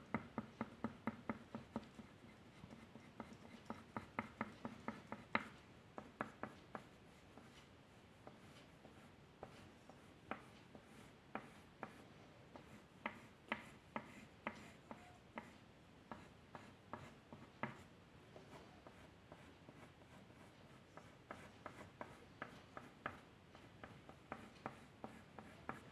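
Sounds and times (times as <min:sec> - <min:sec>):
drawing tool tapping on paper: 0:00.1 - 0:07.5, 0:09.4 - 0:12.0, 0:12.6 - 0:19.8, 0:21.0 - 0:23.2, 0:23.8 - 0:25.9.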